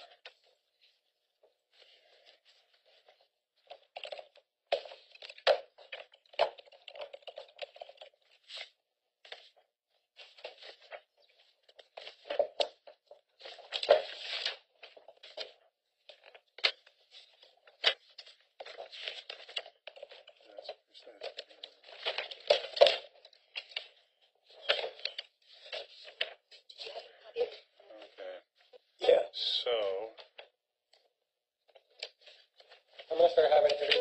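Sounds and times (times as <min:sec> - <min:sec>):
paper rustling: 0:00.0 - 0:28.9, 0:31.7 - 0:34.0.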